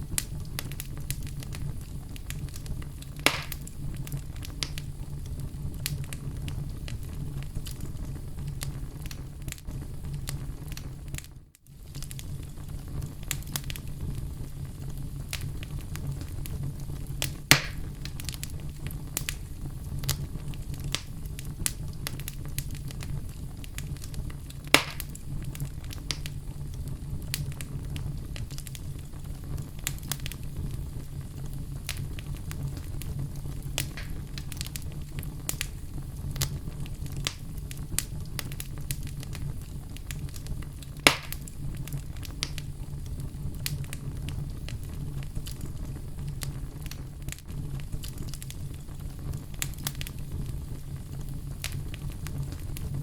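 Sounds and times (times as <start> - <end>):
fire pops: 0.0 - 53.0
logs burning with crackles: 0.0 - 53.0.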